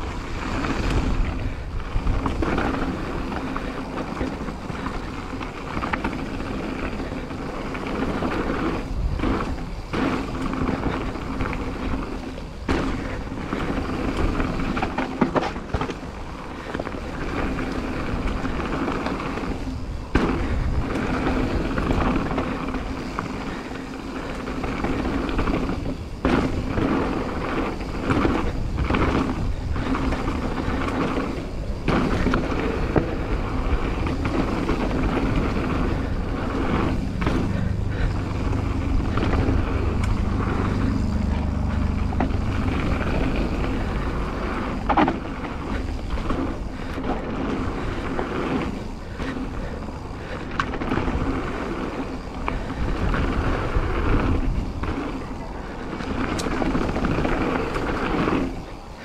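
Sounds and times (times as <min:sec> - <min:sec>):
bike knocking and rattling: 0:00.0 - 0:59.0
tyres rumbling on dirt trail: 0:00.0 - 0:59.0.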